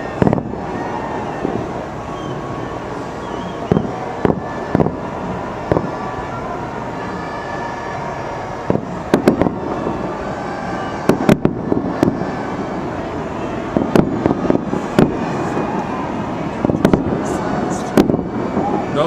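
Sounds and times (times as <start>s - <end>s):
fireworks bangs and cracks: 0.0s - 2.6s, 3.6s - 6.0s, 8.6s - 19.0s
steady background noise: 0.0s - 19.0s.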